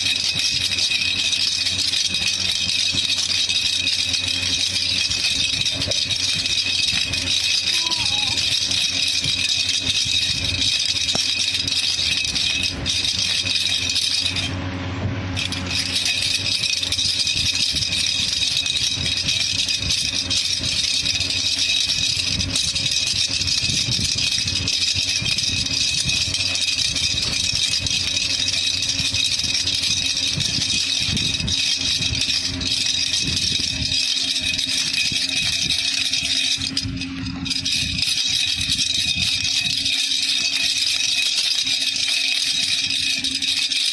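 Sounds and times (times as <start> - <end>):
baby rattle shaken: 0.0 - 43.9.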